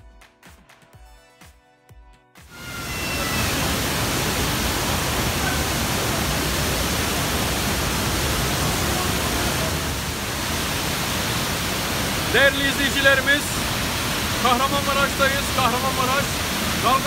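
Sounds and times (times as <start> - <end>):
waterfall rushing: 2.5 - 17.0.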